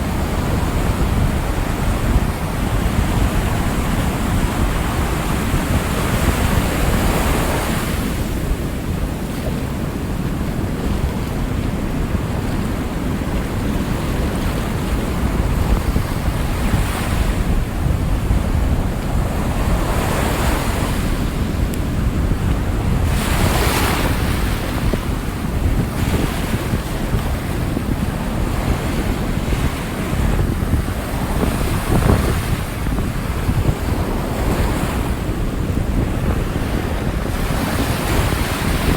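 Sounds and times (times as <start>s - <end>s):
waves breaking: 0.0s - 38.9s
wind buffeting microphone: 0.0s - 38.9s.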